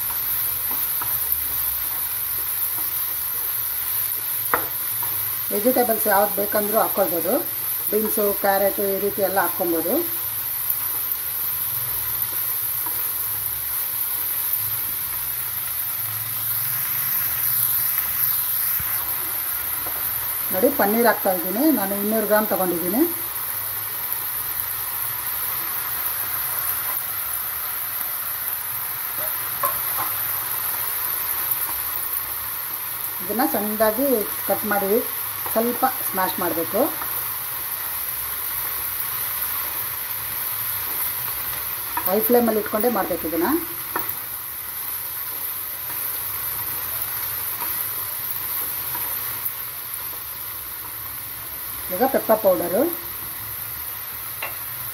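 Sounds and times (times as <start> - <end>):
vegetables sizzling in a wok: 0.0 - 54.9.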